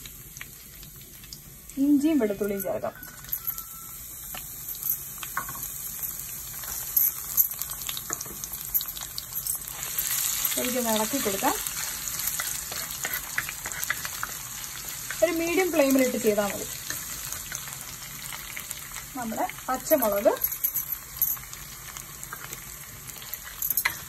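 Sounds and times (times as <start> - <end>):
frying sizzle with crackling pops: 0.0 - 24.0.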